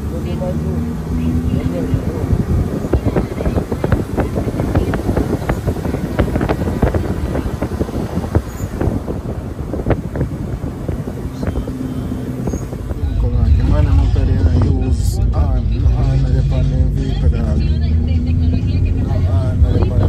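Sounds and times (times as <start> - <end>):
vehicle rumble on rough road: 0.0 - 20.0.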